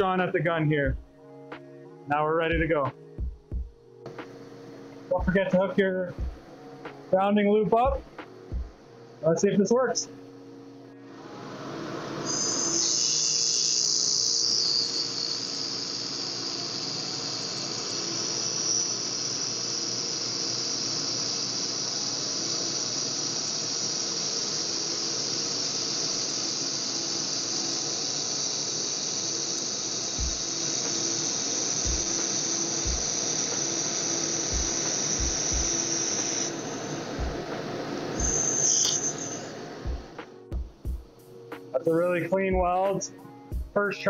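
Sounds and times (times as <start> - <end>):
laser welder hissing whine: 0.0 - 44.0.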